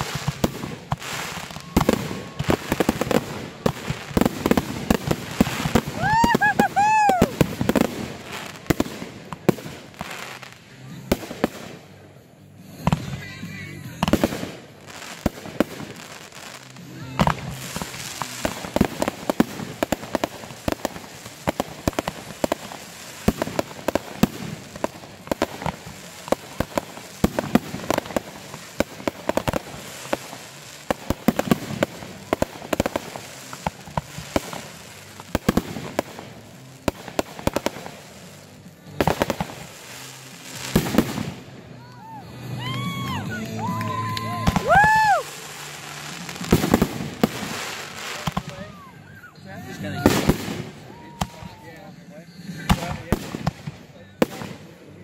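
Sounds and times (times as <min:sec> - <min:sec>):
firework crackling: 0:00.0 - 0:55.0.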